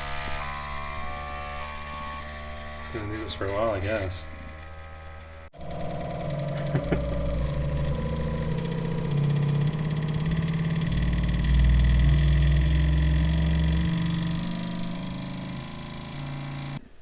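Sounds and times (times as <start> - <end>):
printer motors humming: 2.2 - 16.8.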